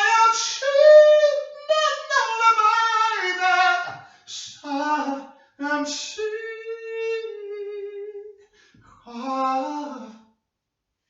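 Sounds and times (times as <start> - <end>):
person singing unaccompanied: 0.0 - 8.3, 9.1 - 10.2.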